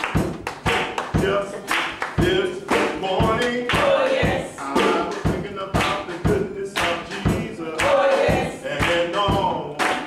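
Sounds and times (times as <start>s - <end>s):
sharp even beat: 0.0s - 10.0s
gospel choir singing: 0.8s - 10.0s.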